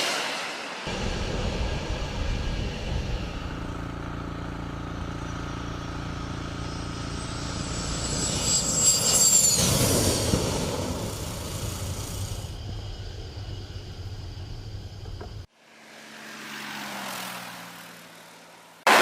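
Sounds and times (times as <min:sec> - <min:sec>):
fighter jet passing: 0:00.0 - 0:14.2, 0:15.7 - 0:19.0.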